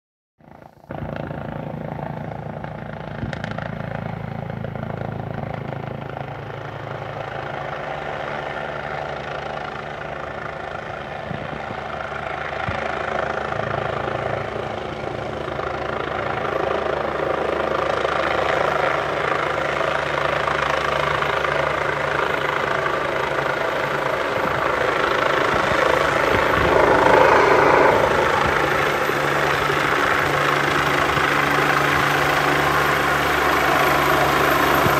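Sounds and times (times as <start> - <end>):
helicopter rotor and engine: 0.4 - 34.9.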